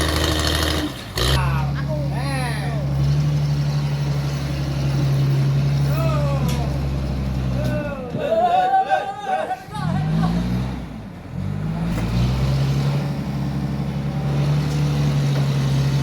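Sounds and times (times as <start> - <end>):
heavy diesel engine revving: 0.0 - 8.0, 9.7 - 16.0.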